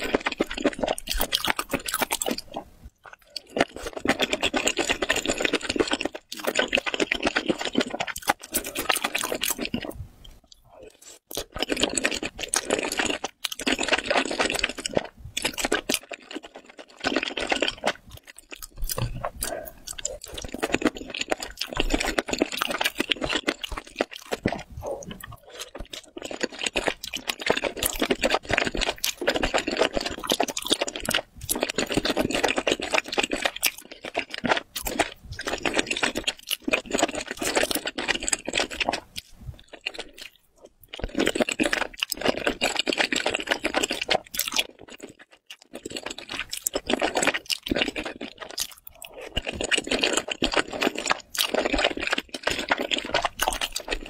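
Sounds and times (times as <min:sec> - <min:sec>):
person slurping and chewing: 0:00.0 - 0:54.0.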